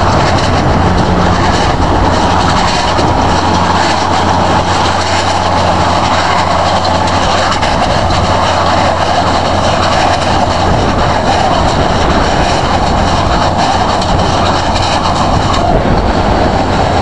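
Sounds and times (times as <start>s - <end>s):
baler machinery noise: 0.0s - 17.0s
low engine hum: 0.0s - 17.0s.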